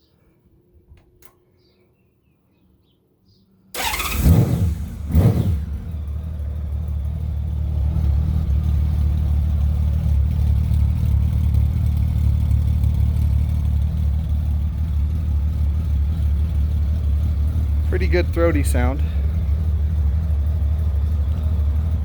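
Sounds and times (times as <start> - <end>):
motorcycle engine idling: 3.8 - 22.0.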